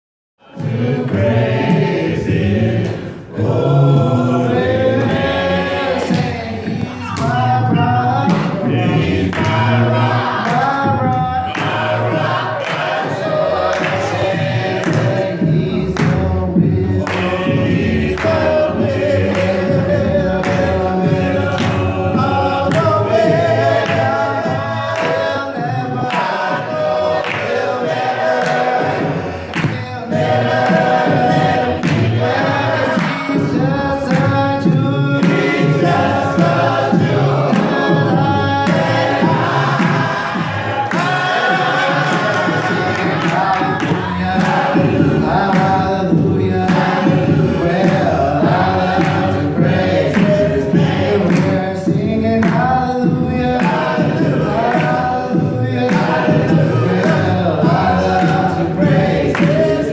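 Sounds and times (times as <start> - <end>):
choir singing gospel: 0.4 - 59.9
steady beat: 0.5 - 59.9.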